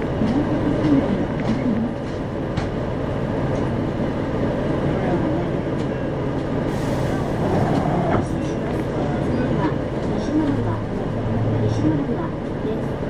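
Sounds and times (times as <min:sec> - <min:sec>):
diesel bus engine: 0:00.0 - 0:13.0
road noise: 0:00.0 - 0:13.0.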